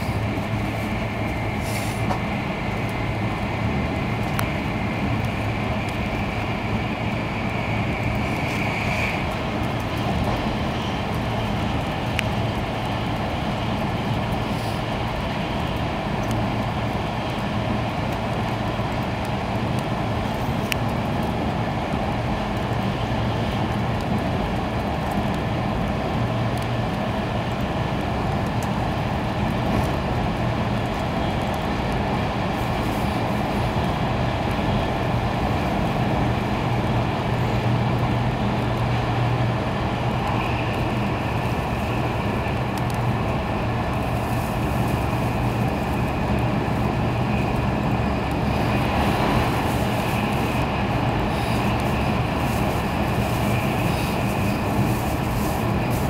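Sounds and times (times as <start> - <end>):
train rail and air noise: 0.0 - 56.0.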